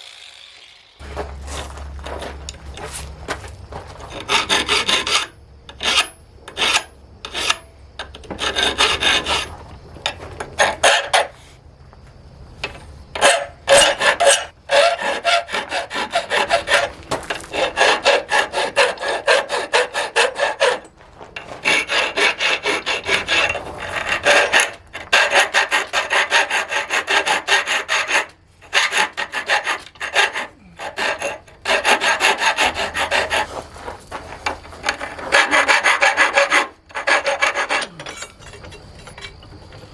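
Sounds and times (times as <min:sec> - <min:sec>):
tool scraping metal: 0:00.0 - 0:11.5, 0:12.6 - 0:39.9.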